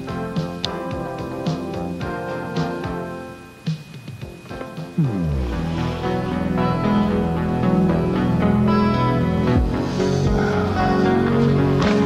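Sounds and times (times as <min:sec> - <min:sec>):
background music held notes: 0:00.0 - 0:12.0.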